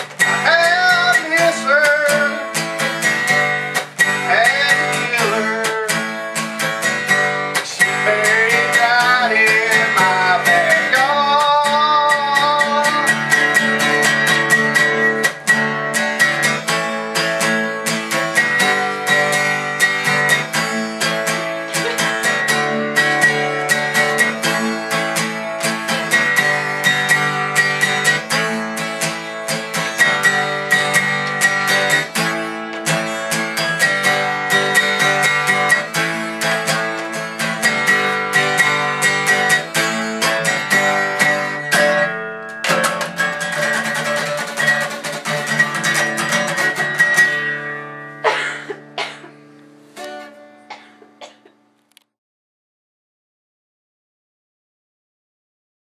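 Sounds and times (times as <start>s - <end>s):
acoustic guitar strumming: 0.0s - 51.9s.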